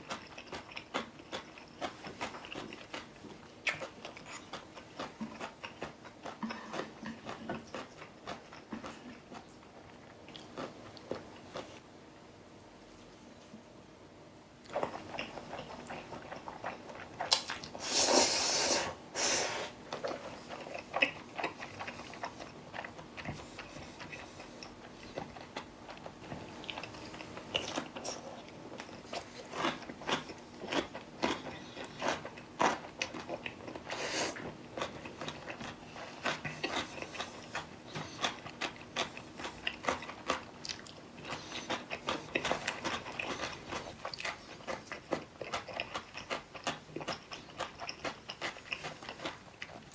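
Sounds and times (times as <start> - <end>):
chewing and crunchy bites: 0.0 - 11.8, 20.0 - 49.9.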